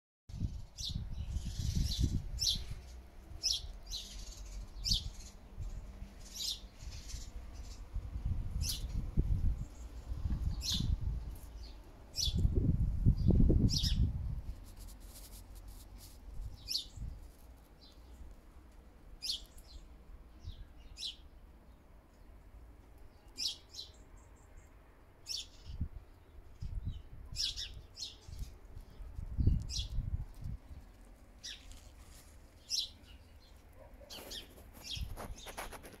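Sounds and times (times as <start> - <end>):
small bird chirping: 0.3 - 18.2, 19.2 - 21.3, 23.1 - 36.0.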